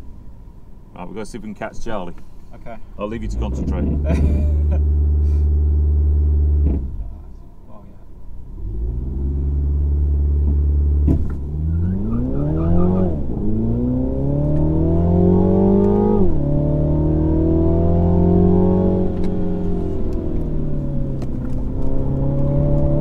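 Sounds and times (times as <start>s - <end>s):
car engine revving: 3.1s - 7.4s, 8.4s - 23.0s.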